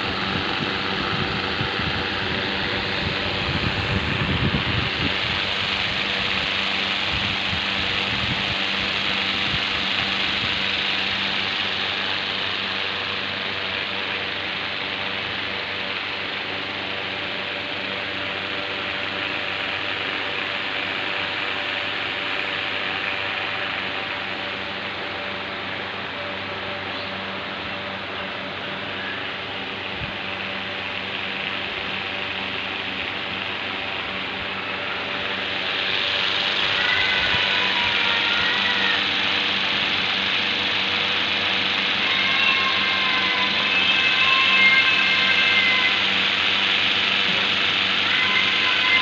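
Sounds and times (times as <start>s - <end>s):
fan motor whirring: 0.0s - 49.0s.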